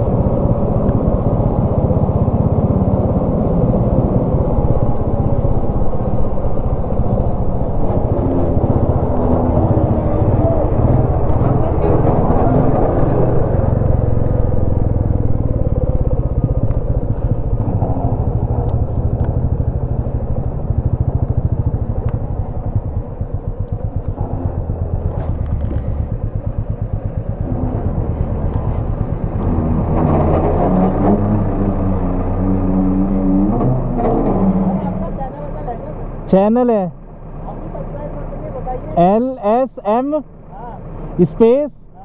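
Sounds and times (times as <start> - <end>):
motorcycle engine riding: 0.0 - 42.0.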